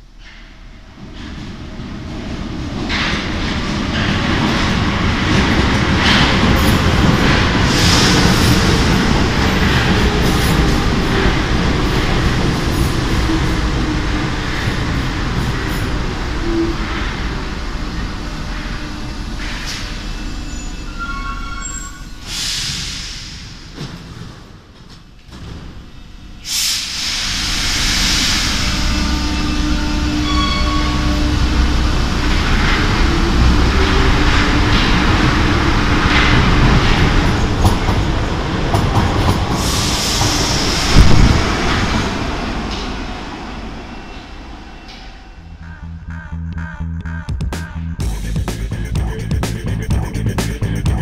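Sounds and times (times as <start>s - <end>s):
wheels rumbling on rails: 0.0s - 22.8s, 23.5s - 51.0s
metro train running and slowing: 0.0s - 51.0s.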